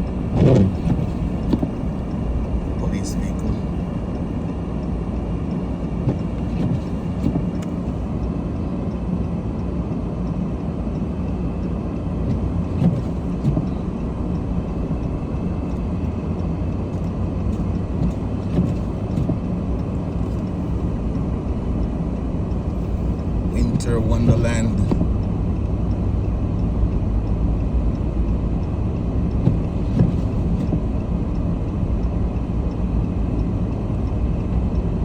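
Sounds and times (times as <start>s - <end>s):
car engine and tyre rumble: 0.0s - 35.0s
light ticks: 3.4s - 35.0s.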